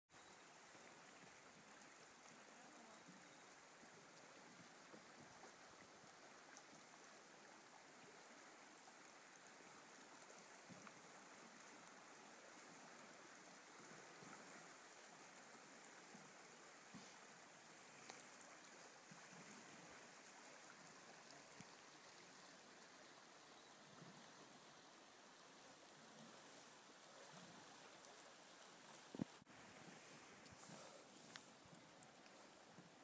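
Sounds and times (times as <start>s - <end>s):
river water rippling: 0.1s - 33.0s.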